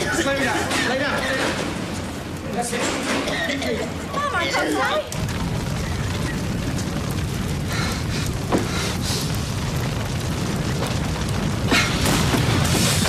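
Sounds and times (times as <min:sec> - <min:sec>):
fire crackles and pops: 0:00.0 - 0:13.0
large fire rumbling: 0:00.0 - 0:13.0.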